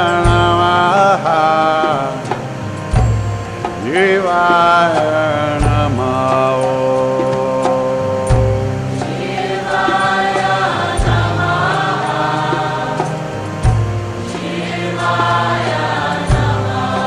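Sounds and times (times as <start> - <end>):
voices singing a chant: 0.0 - 17.0.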